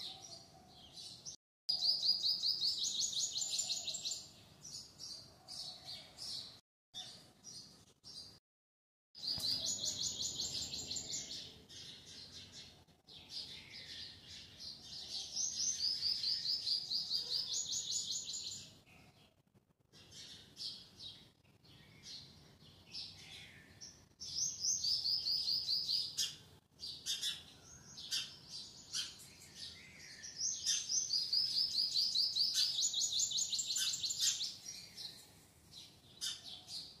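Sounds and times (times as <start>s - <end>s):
small birds chirping: 0.0s - 8.4s, 9.2s - 37.0s.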